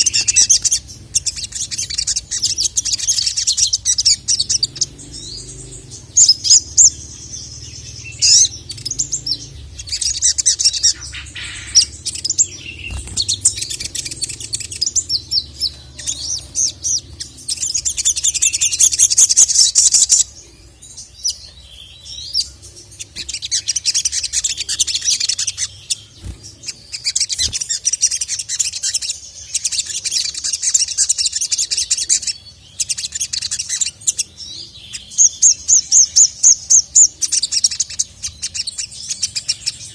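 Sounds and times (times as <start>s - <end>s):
bird chirping trills: 0.0s - 39.9s
faint low hum: 0.0s - 39.9s.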